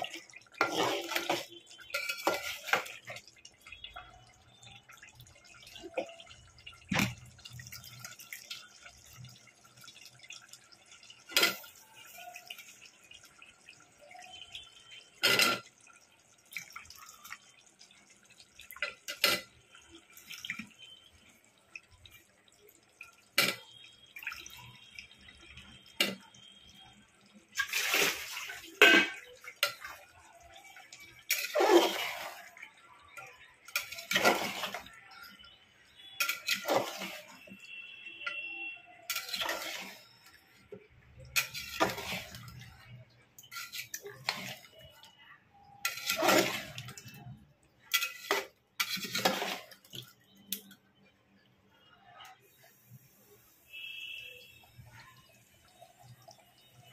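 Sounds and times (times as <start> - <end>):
wet scrapes and splashes stirring: 0.0 - 51.1
curry bubbling: 0.0 - 56.9.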